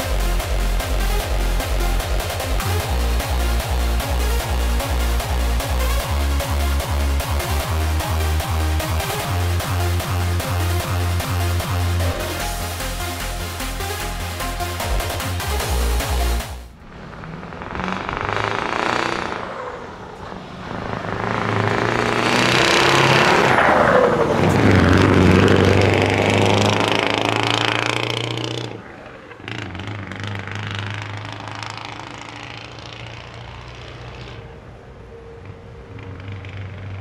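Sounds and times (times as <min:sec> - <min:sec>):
diesel truck engine passing: 0:00.0 - 0:37.0.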